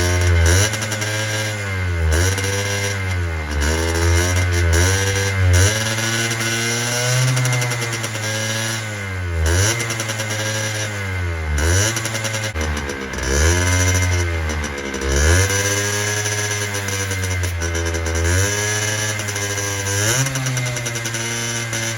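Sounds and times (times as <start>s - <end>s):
small two-stroke engine running unevenly: 0.0s - 21.9s.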